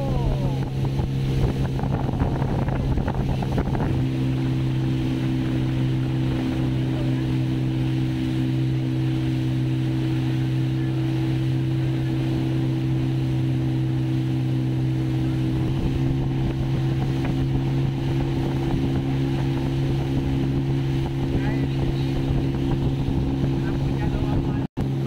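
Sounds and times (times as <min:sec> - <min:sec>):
motorboat engine humming: 0:00.0 - 0:25.0
water rushing past hull: 0:00.0 - 0:25.0.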